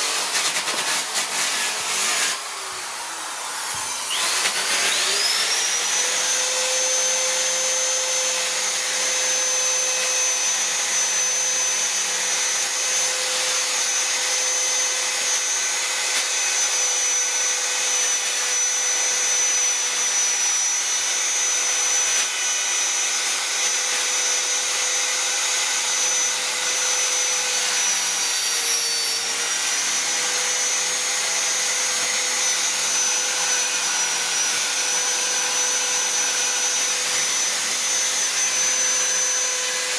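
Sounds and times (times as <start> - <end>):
die grinder whining into wood: 0.0 - 39.9.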